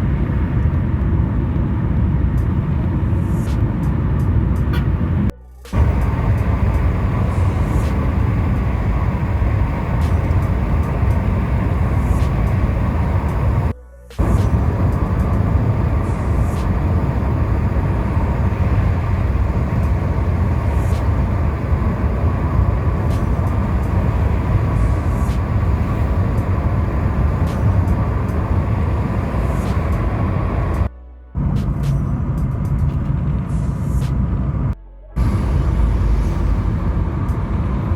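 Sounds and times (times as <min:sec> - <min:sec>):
vehicle road and engine noise: 0:00.0 - 0:37.9.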